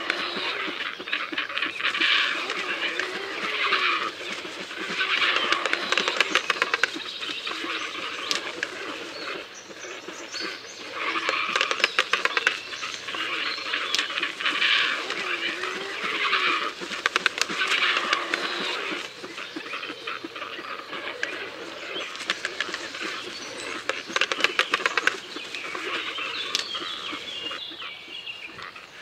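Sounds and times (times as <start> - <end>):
birds honking: 0.0 - 29.0.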